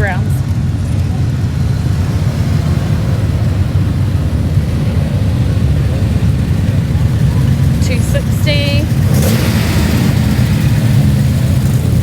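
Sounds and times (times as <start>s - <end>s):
car traffic rumble: 0.0s - 12.0s.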